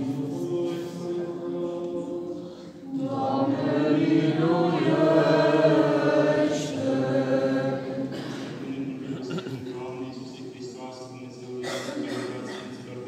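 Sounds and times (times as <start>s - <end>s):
church choir chanting: 0.0s - 13.0s.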